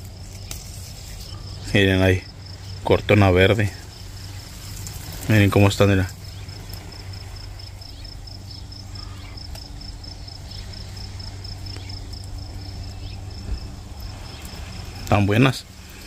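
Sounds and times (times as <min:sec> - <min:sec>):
cricket chirping: 0:00.0 - 0:16.0
steady low hum: 0:00.0 - 0:16.0.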